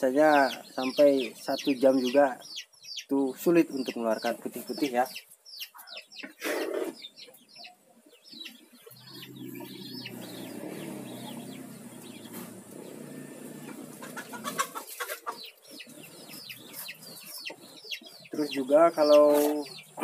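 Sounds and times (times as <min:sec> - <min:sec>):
birds chirping: 0:00.0 - 0:20.0
chickens clucking: 0:00.0 - 0:20.0.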